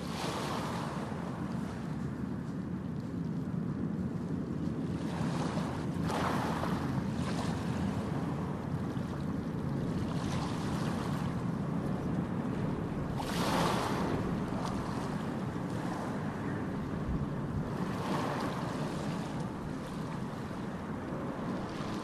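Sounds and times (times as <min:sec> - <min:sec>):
ocean surf rumble: 0:00.0 - 0:22.0.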